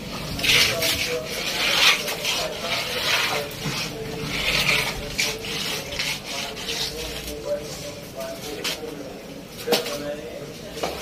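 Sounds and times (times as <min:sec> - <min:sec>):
squeegee scraping wet concrete: 0:00.0 - 0:08.9.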